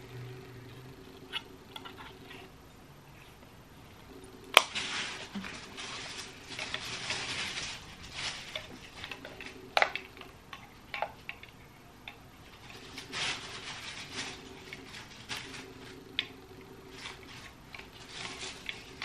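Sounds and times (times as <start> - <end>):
cable rustling: 0.0 - 11.7, 12.4 - 19.0.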